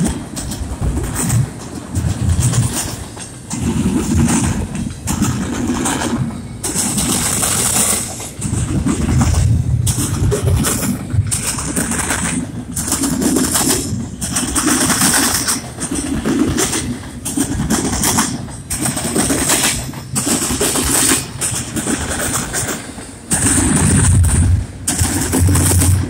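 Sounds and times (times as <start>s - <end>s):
freight train wheels clattering on rails: 0.0s - 26.0s.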